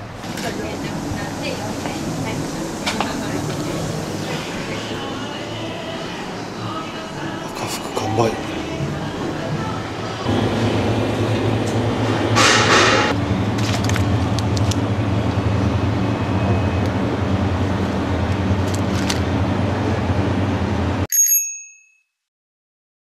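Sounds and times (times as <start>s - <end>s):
refrigeration and ventilation hum: 0.0s - 21.1s.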